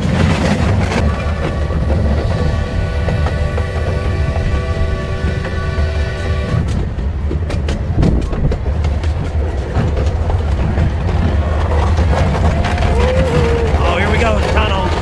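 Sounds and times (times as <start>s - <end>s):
train cars rumbling on track: 0.0s - 15.0s
wheels clicking over rails: 0.0s - 15.0s.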